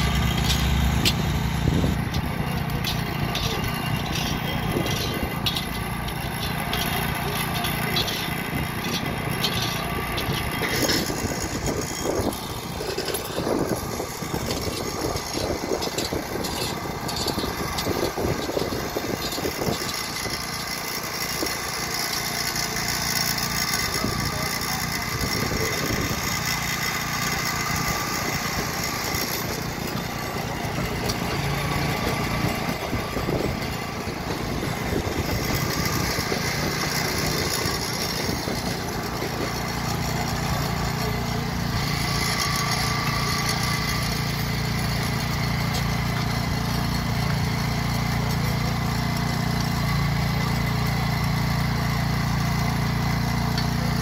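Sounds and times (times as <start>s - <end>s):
small petrol engine running: 0.0s - 54.0s.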